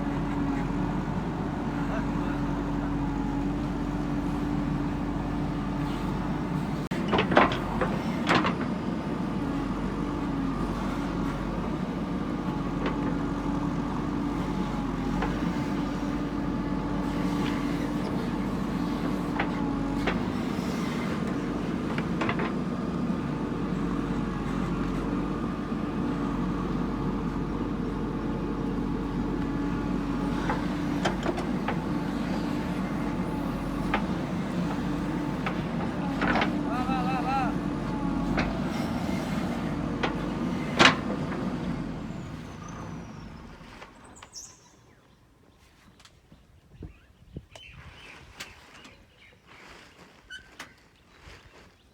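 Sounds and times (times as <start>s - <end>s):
diesel engine running: 0.0s - 44.3s.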